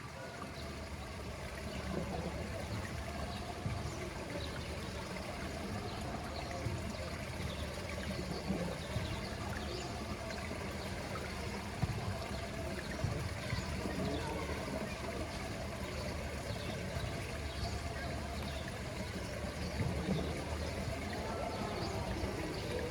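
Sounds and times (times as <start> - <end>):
pool water trickling and lapping: 0.0 - 22.9
water drips and splashes: 0.0 - 22.9.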